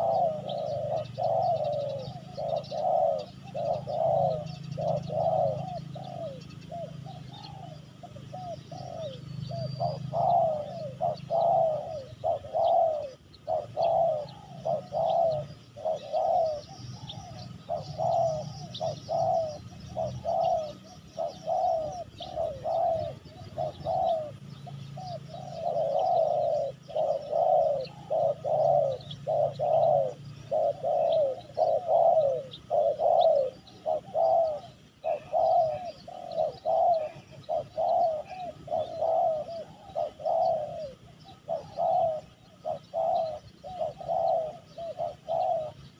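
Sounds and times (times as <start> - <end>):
doves cooing: 0.0 - 45.9
faint bird chirps: 0.0 - 45.9.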